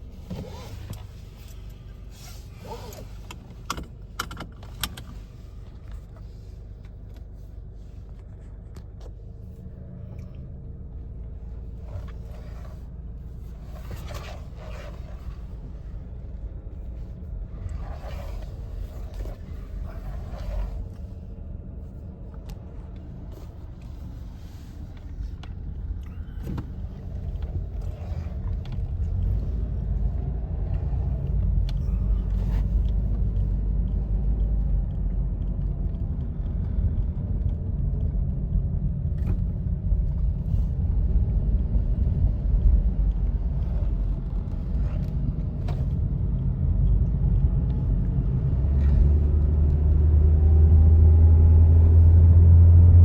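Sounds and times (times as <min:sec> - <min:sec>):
car engine rumble: 0:00.0 - 0:53.0.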